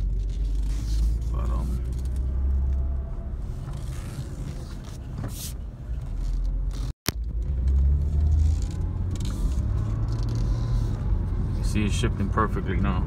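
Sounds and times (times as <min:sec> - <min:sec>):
car engine inside cabin: 0:00.0 - 0:13.0.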